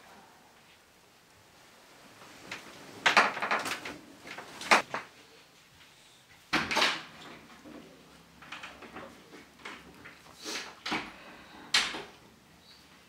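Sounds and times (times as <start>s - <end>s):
rustling: 0.0s - 12.2s.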